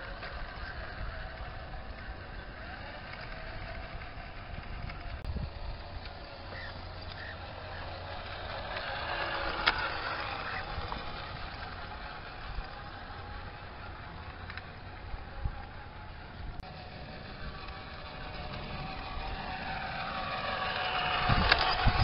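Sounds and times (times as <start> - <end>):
rc truck motor whirring: 0.0 - 22.0.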